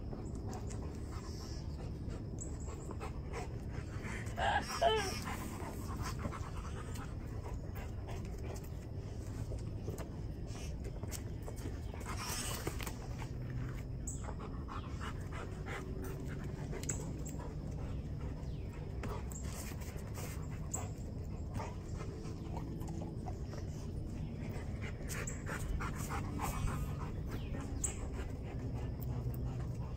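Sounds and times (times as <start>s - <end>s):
dog panting: 0.0s - 29.9s
low hum: 0.0s - 29.9s.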